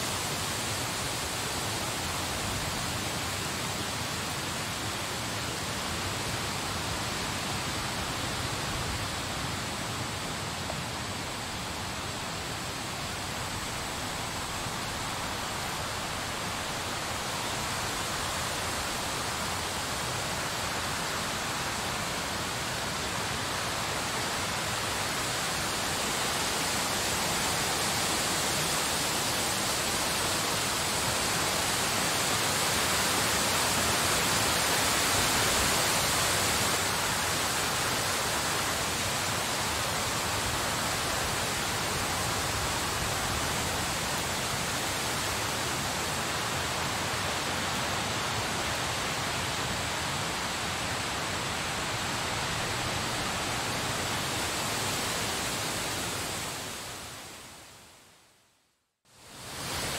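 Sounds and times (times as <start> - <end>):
snowstorm wind hissing: 0.0 - 57.8.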